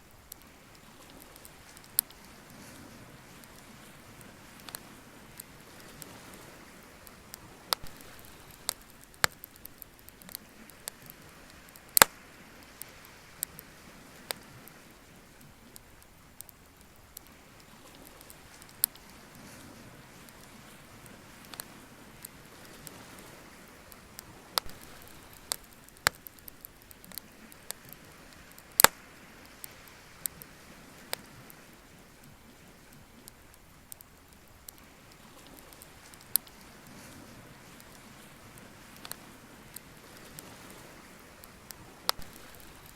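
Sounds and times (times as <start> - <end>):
faint steady background noise: 0.0 - 42.9
faint steady hiss: 0.0 - 42.9
wood fire crackling: 0.0 - 42.9.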